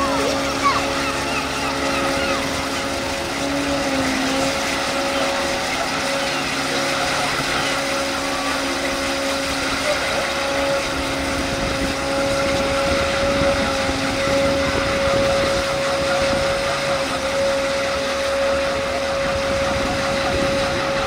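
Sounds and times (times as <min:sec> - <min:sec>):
high whine: 0:00.0 - 0:21.0.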